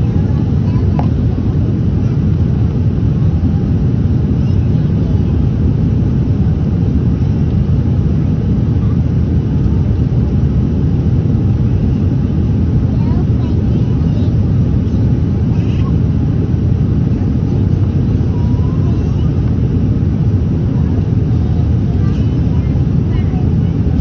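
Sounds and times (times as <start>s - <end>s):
jet cabin engine rumble: 0.0s - 24.0s.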